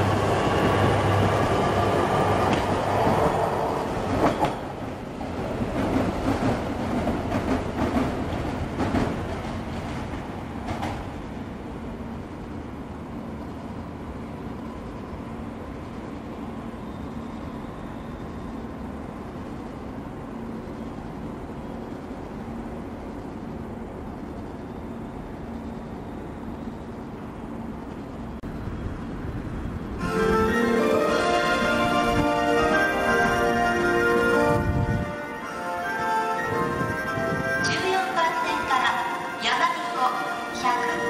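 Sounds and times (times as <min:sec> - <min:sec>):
train rumble: 0:00.0 - 0:41.0.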